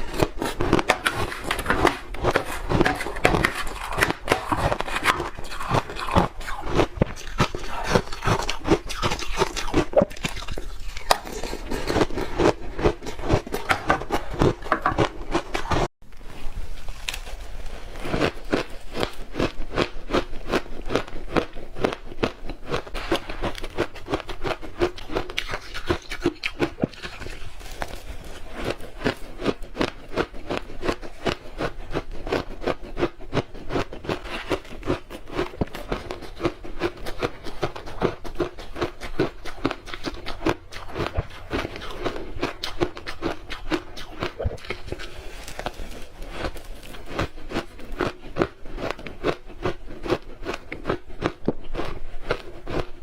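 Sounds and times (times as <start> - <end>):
person crunching ice: 0.0 - 15.9, 16.9 - 53.0.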